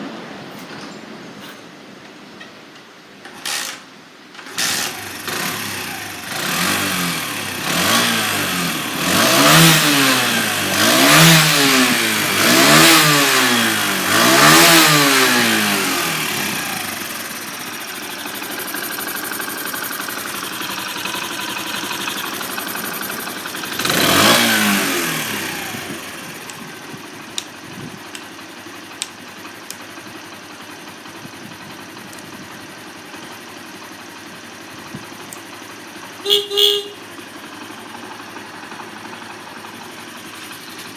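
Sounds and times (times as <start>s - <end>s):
motorcycle engine revving: 4.4s - 40.9s.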